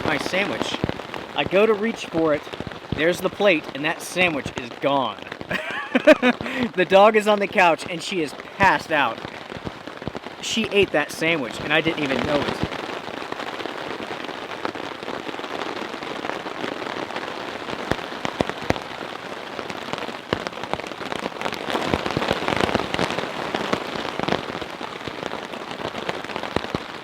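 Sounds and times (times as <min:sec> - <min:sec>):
rain on a tarp: 0:00.0 - 0:27.0.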